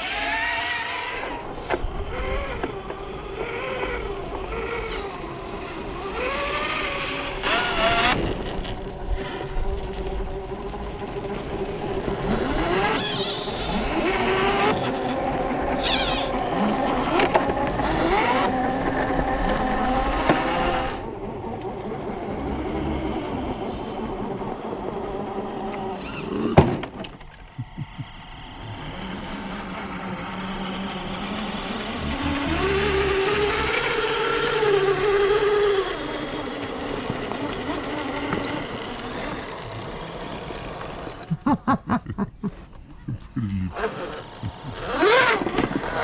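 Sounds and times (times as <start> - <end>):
electric motors whining: 0.0 - 46.0.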